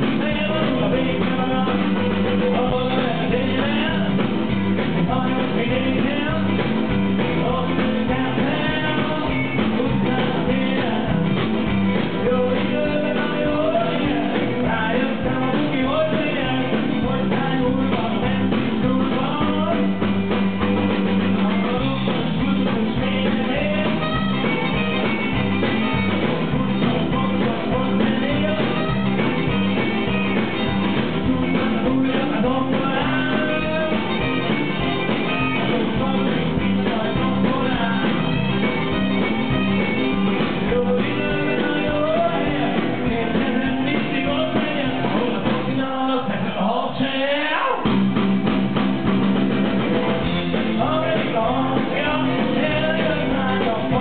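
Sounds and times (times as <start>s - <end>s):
man singing: 0.0s - 20.2s, 21.2s - 48.0s, 50.3s - 54.0s
live rock band playing: 0.0s - 54.0s.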